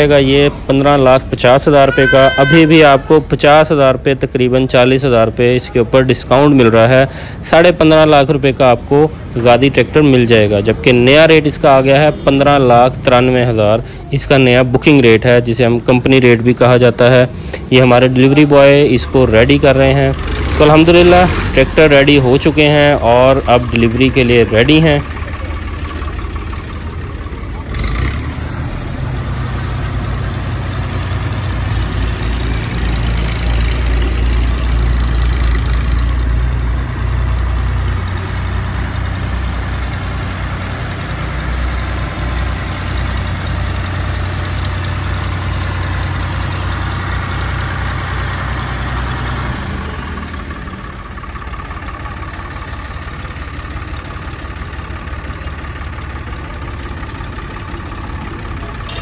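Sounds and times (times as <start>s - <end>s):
tractor diesel engine rumble: 0.0s - 59.0s.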